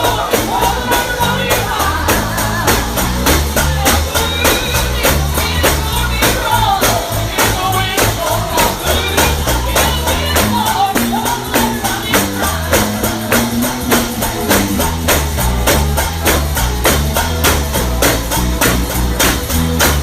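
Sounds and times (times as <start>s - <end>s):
gospel band music: 0.0s - 20.0s
tambourine struck and shaken: 0.0s - 20.0s
walking bass line: 0.0s - 20.0s.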